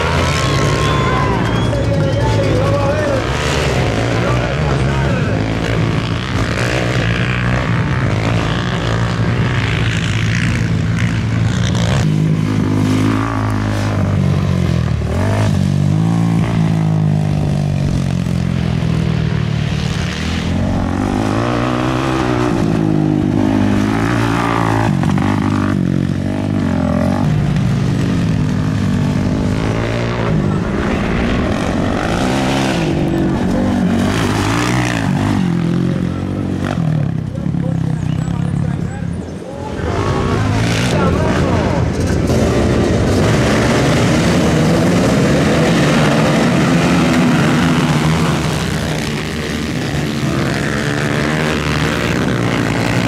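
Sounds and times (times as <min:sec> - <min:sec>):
racing quad bike engines revving: 0:00.0 - 0:53.0.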